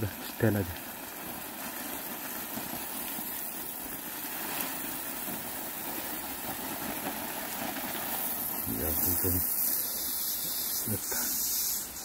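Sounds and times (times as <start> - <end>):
hose water spraying and splashing: 0.0 - 12.0.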